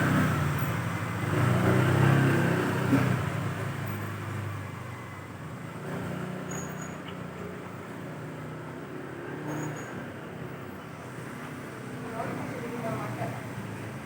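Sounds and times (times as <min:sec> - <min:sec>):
road vehicle engine: 0:00.0 - 0:14.0.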